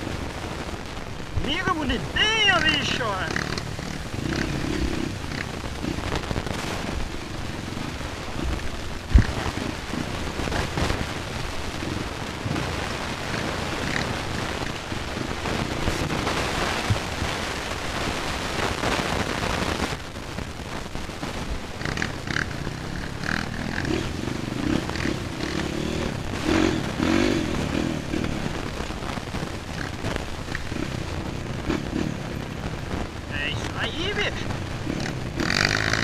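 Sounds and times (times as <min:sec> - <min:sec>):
motorcycle engine running: 0:00.0 - 0:18.6, 0:21.0 - 0:36.0
wind noise: 0:00.0 - 0:36.0.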